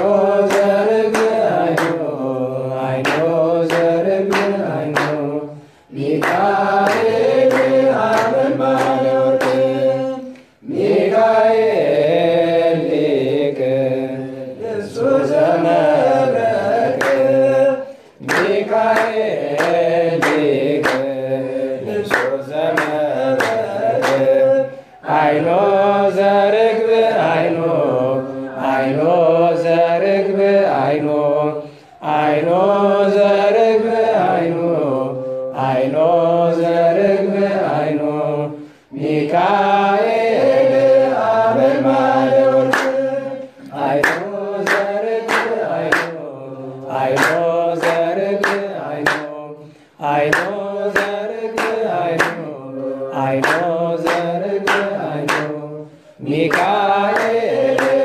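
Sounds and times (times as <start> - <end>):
sharp claps keeping a beat: 0.0 - 58.0
voices chanting a hymn: 0.0 - 58.0.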